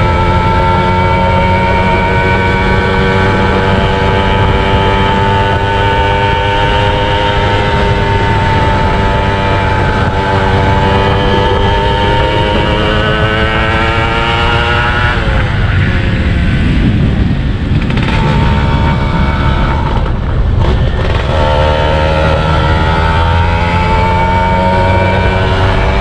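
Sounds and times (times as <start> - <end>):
rushing noise: 0.0 - 26.0
two-stroke motorcycle engine revving: 0.0 - 26.0.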